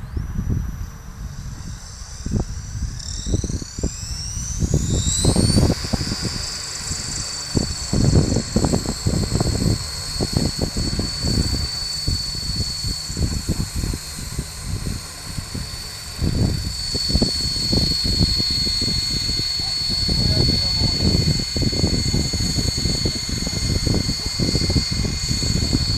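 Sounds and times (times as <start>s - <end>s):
rc helicopter motor whine: 0.0s - 25.9s
wind buffeting microphone: 0.0s - 25.9s.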